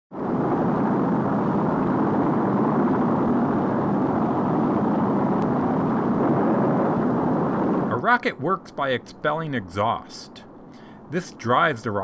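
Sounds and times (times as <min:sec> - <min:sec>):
rocket engines roaring at liftoff: 0:00.1 - 0:12.0.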